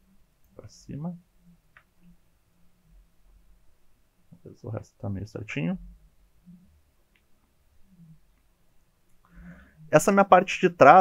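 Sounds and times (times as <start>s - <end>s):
faint low murmur: 0.0s - 10.1s.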